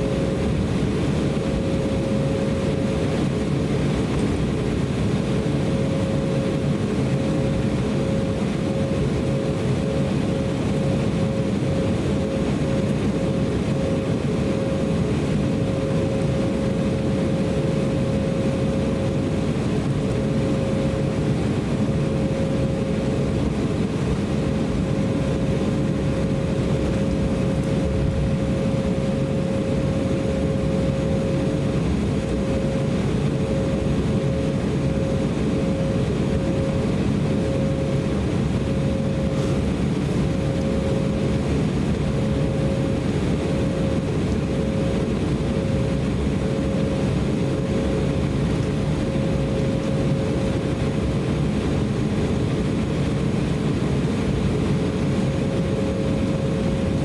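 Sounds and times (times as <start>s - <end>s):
airliner engines rumbling: 0.0s - 57.0s
constant engine whine: 0.0s - 57.0s.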